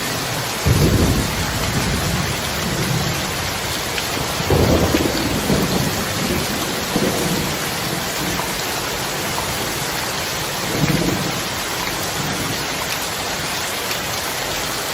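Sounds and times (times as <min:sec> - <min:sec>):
thunder rumbling: 0:00.0 - 0:12.7
heavy rain falling: 0:00.0 - 0:14.9.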